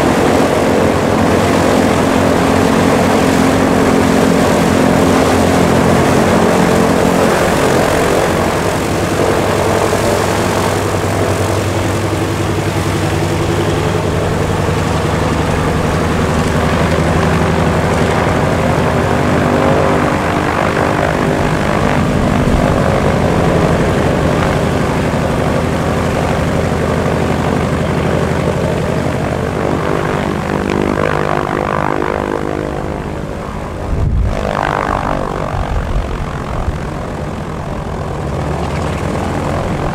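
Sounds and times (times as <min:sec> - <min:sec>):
radial aircraft engines running: 0:00.0 - 0:39.9.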